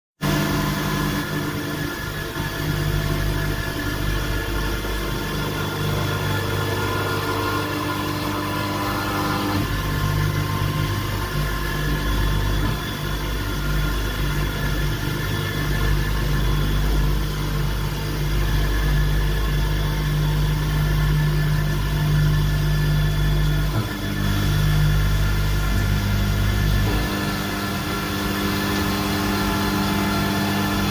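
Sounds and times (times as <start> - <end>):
machine hum: 0.2 - 30.9.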